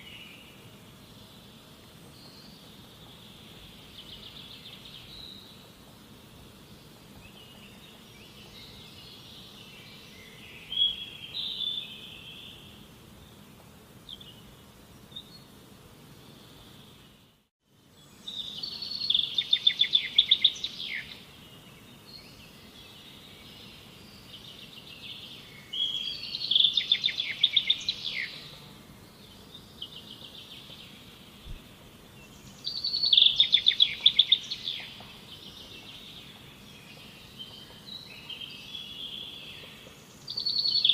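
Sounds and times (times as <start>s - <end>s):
birds chirping trills: 0.0s - 17.3s, 17.9s - 40.9s
faint background hiss: 0.0s - 40.9s.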